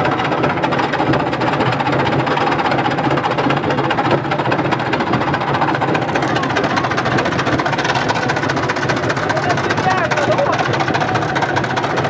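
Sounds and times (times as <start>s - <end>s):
washing machine drum spinning: 0.0s - 12.0s.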